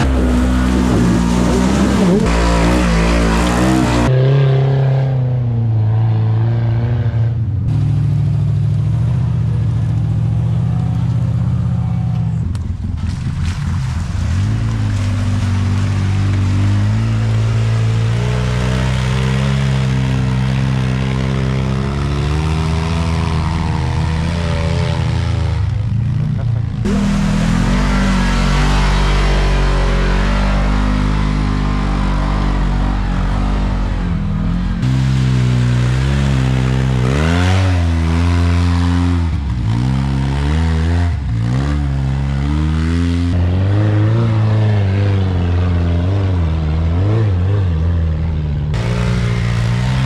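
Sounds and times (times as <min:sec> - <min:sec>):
off-road vehicle engines revving: 0:00.0 - 0:50.0.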